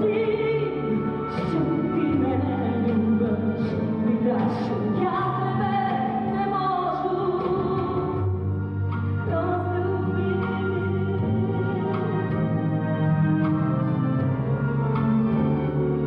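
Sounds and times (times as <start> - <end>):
slow instrumental song: 0.0 - 16.0.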